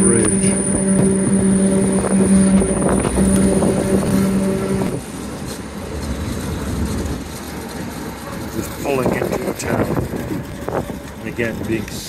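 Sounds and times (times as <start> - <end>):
electric train hum: 0.0 - 12.0
train wheel and track rumble: 0.0 - 12.0.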